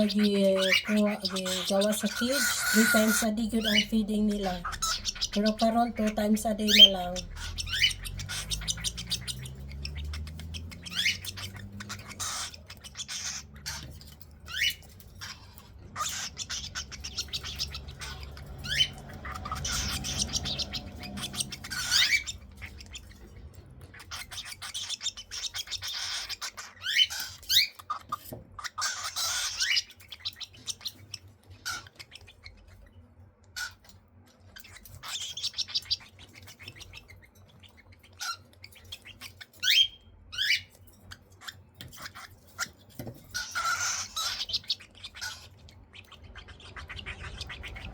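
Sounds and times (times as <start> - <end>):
cockatiels screeching and chirping: 0.0 - 47.9.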